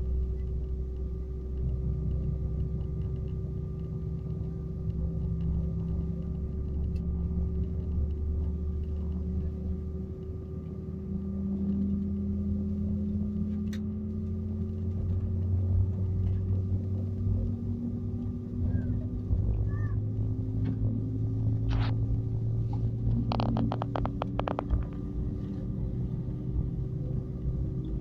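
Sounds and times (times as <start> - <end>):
aircraft engine hum: 0.0 - 28.0
low tone rising in pitch: 0.0 - 28.0.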